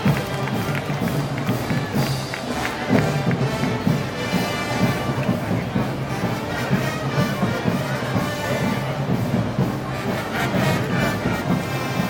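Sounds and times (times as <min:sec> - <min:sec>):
festival band music: 0:00.0 - 0:12.0.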